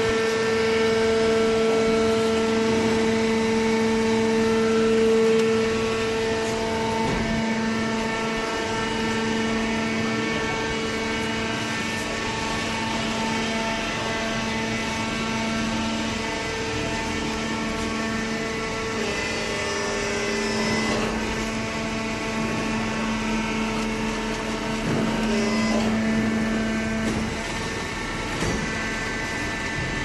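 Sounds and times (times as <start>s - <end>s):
baling press machine hum: 0.0s - 30.0s.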